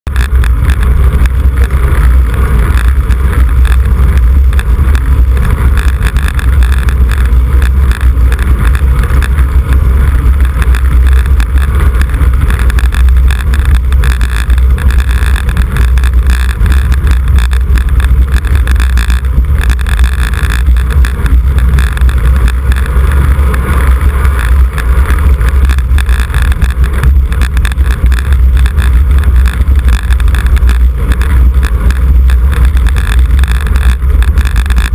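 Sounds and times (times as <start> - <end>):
wind buffeting microphone: 0.1 - 34.9.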